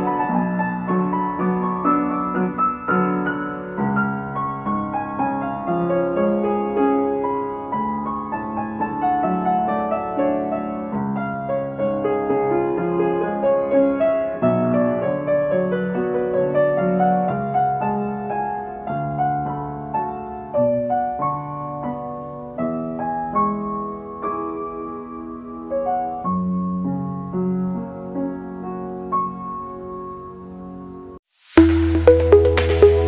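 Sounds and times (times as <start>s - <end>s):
upright piano playing: 0.0s - 33.0s.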